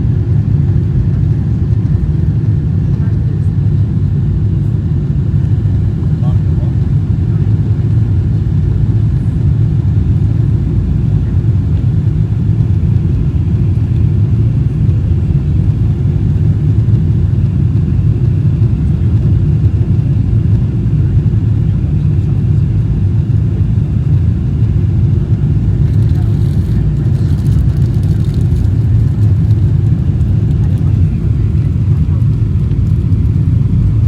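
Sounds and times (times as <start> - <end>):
airliner engine rumble: 0.0 - 34.0.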